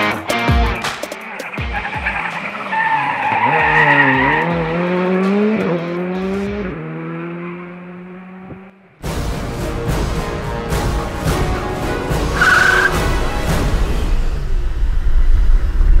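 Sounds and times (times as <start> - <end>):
rally car engine revving: 0.7 - 9.1, 11.4 - 16.0.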